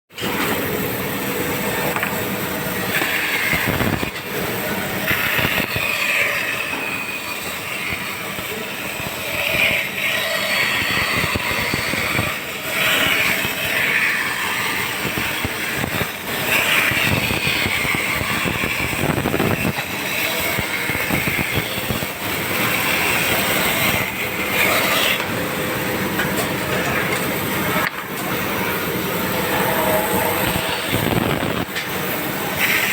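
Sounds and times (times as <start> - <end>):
band saw running: 0.2 - 32.9.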